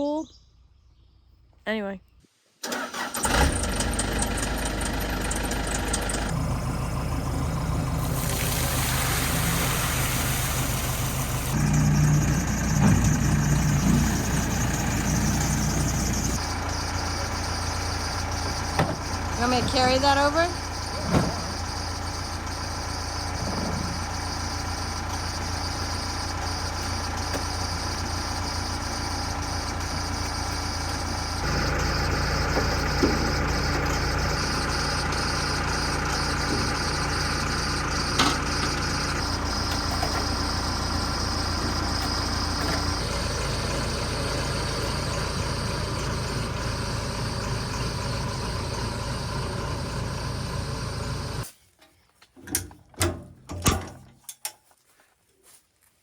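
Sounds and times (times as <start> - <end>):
engine idling: 2.7 - 51.5.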